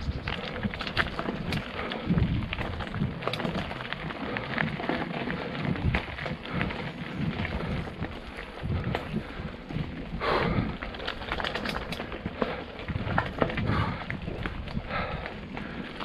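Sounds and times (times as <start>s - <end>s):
bike clicks and rattles: 0.0s - 16.0s
bike tyres rumbling over dirt: 0.0s - 16.0s.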